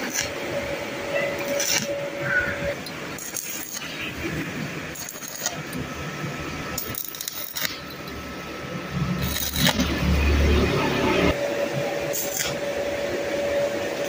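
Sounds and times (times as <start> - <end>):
stick welder crackling: 0.0 - 11.4, 12.0 - 12.9.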